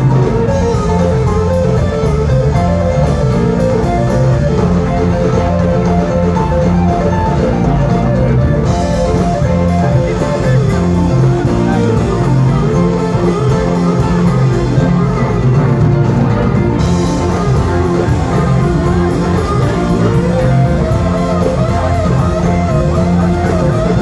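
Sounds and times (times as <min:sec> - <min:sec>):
bass guitar: 0:00.0 - 0:24.0
drum kit: 0:00.0 - 0:24.0
electric guitars: 0:00.0 - 0:24.0.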